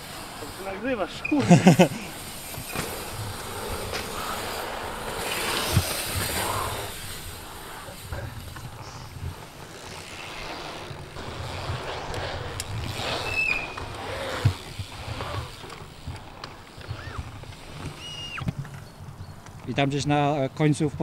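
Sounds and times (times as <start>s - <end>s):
bike tyres rolling over dirt: 0.0s - 21.0s.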